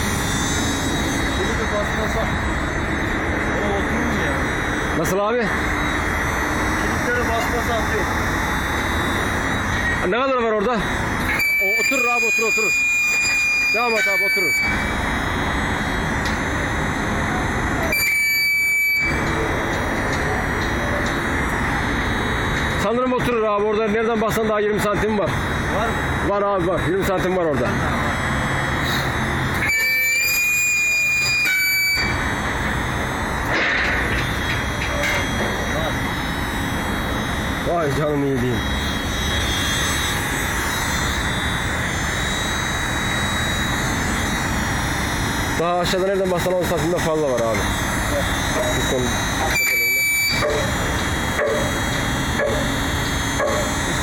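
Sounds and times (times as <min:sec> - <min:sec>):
hydraulic unit rushing noise: 0:00.0 - 0:23.5, 0:24.4 - 0:54.0
thin steady whine: 0:00.0 - 0:54.0.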